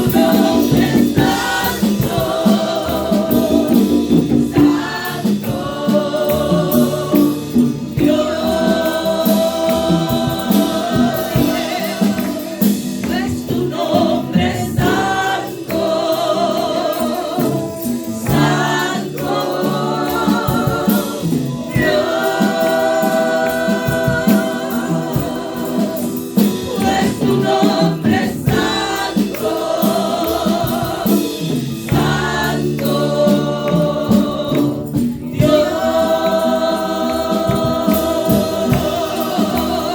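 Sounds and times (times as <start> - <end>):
choir singing gospel music: 0.0 - 39.9.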